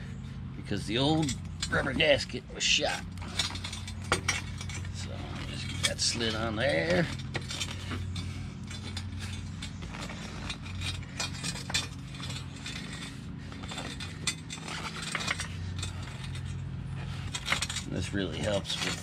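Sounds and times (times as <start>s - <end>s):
steady low hum: 0.0s - 19.0s
rubber rubbing on coil spring: 3.1s - 19.0s.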